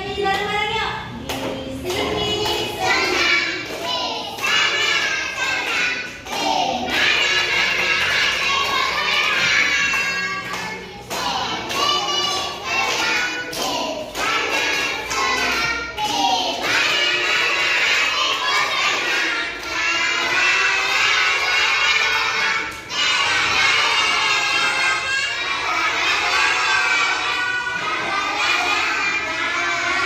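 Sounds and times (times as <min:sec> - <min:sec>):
voices singing over music: 0:01.1 - 0:30.0.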